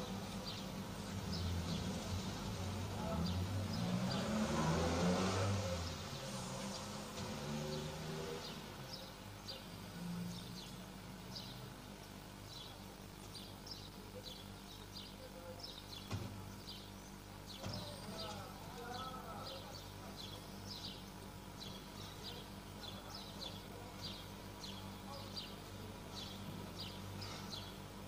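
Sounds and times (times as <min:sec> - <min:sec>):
murmur of distant voices: 0:00.0 - 0:28.0.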